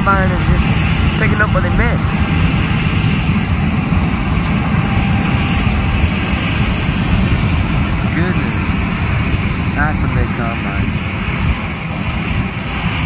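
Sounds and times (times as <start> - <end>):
combine harvester drone: 0.0 - 13.0
wind rumble on microphone: 0.0 - 13.0.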